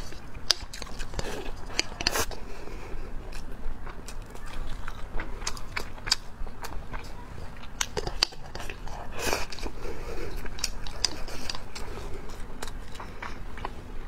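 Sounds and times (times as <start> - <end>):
chewing and crunching: 0.0 - 14.0.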